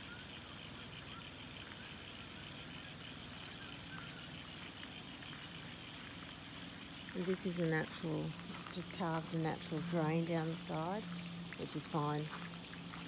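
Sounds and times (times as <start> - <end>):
floodwater rushing: 0.9 - 13.0.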